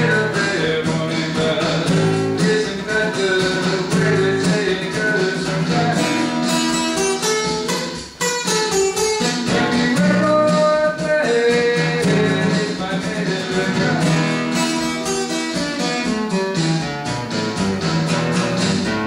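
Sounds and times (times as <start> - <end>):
acoustic guitar strummed and picked: 0.0 - 19.0.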